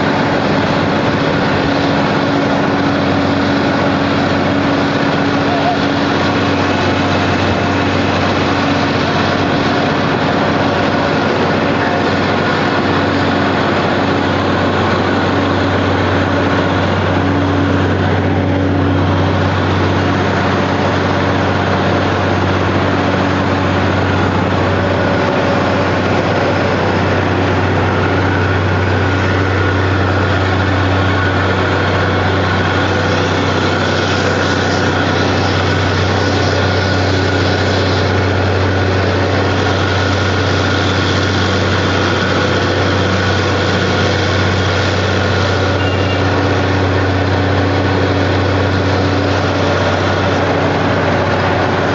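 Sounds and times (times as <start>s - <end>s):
drilling rig engine droning: 0.0s - 51.9s.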